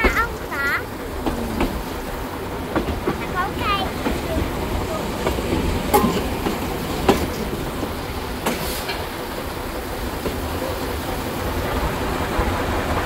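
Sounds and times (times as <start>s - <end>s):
wheel clacks on track: 0.0s - 10.6s
railway carriage rumbling: 0.0s - 13.0s.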